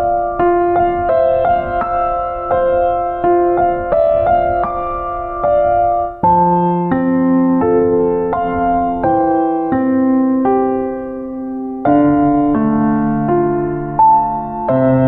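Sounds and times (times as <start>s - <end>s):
electric piano slow chords: 0.0s - 15.0s.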